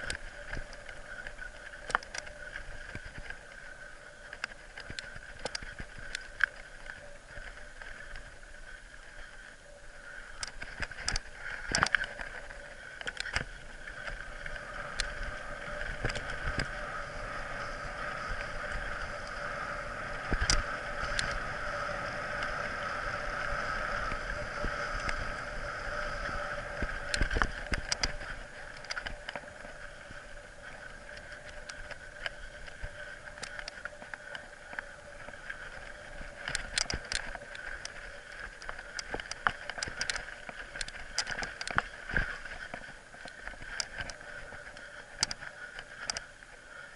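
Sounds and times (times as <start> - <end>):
bike rolling and rattling: 0.0 - 46.9.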